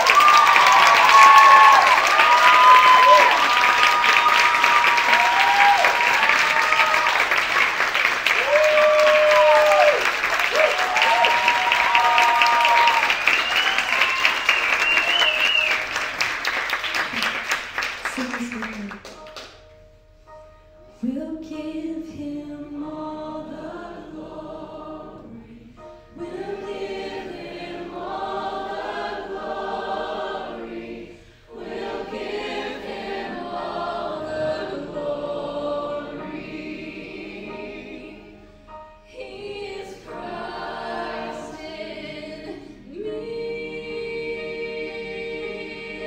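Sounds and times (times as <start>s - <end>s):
voices singing in harmony: 0.0s - 16.0s, 21.0s - 46.0s.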